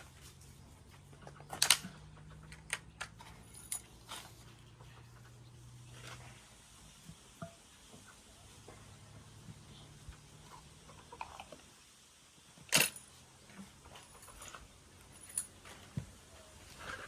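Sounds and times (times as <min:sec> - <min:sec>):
ingredients clicking and rustling in clay pot: 0:00.0 - 0:08.9, 0:09.5 - 0:11.8, 0:12.6 - 0:17.0.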